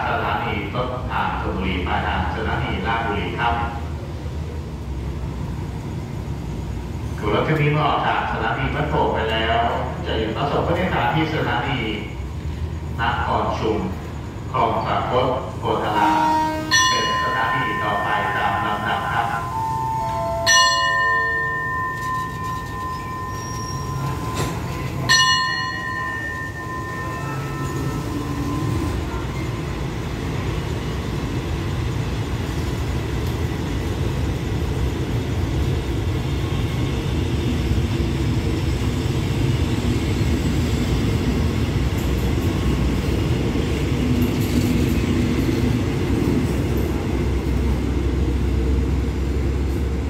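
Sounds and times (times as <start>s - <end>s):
train coaches rumbling past: 0.0s - 50.0s.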